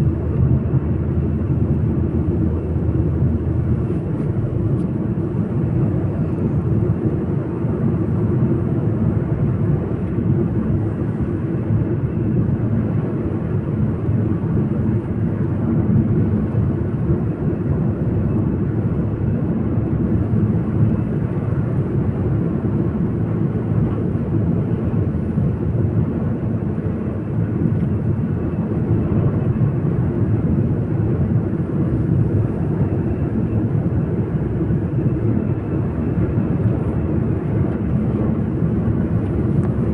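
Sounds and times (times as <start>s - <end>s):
vehicle road and engine rumble: 0.0s - 39.9s.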